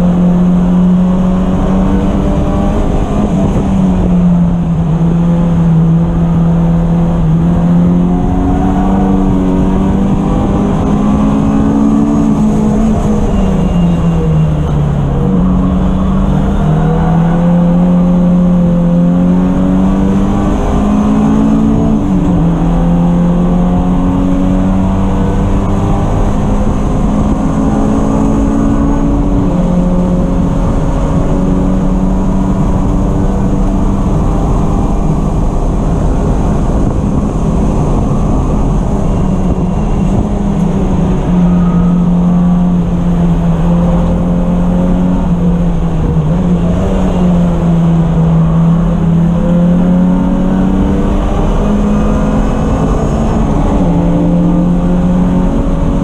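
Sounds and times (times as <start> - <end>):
race car engine running hard: 0.0 - 56.0
road and wind noise: 0.0 - 56.0.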